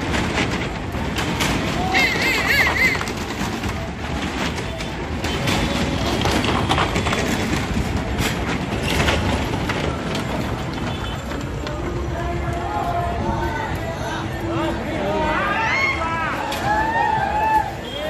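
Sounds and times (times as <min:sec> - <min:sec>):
tyres rumbling on wooden planks: 0:00.0 - 0:18.0.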